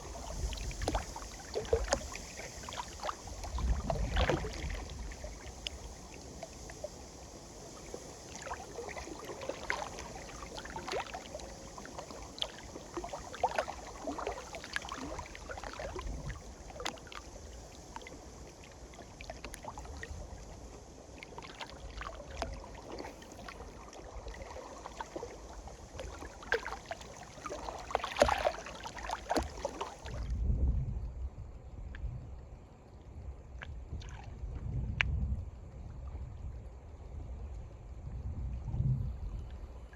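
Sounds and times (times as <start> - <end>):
small waves lapping and splashing: 0.0 - 30.4, 32.8 - 34.7
wind rumbling on microphone: 0.0 - 39.9.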